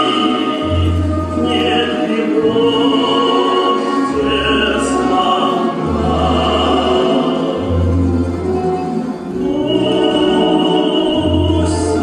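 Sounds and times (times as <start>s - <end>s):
choir singing slow song: 0.0s - 12.0s
instrumental accompaniment: 0.0s - 12.0s.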